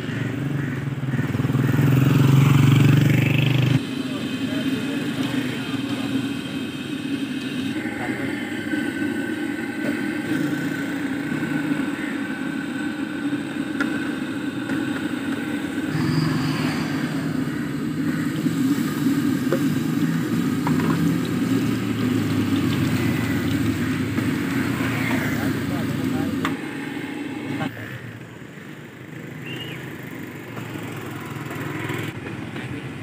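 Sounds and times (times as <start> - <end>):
engine-like drone with hum: 0.0 - 33.0.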